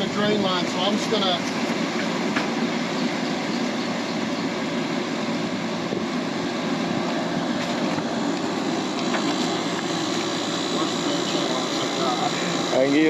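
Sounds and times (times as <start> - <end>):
air conditioner drone: 0.0 - 13.0.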